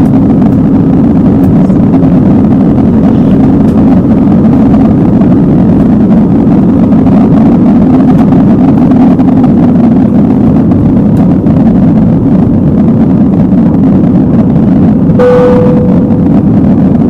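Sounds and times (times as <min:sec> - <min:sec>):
jet engines roaring during takeoff: 0:00.0 - 0:17.0.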